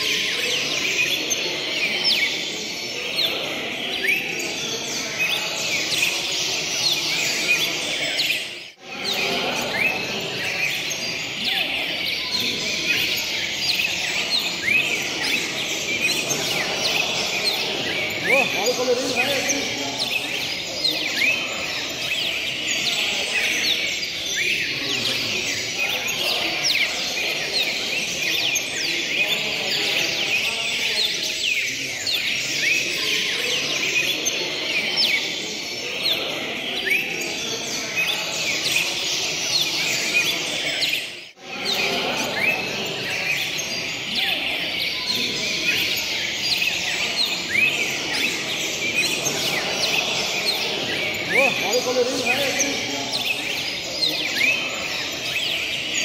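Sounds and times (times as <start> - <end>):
birds chirping and whistling: 0.0 - 56.0
low background murmur: 0.0 - 56.0.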